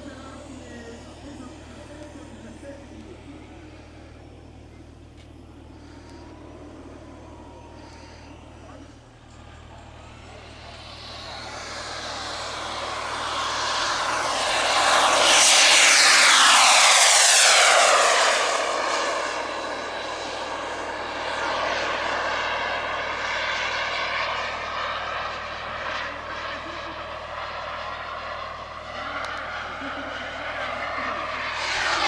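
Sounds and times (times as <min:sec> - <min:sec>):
model jet turbine roar: 0:00.0 - 0:32.0.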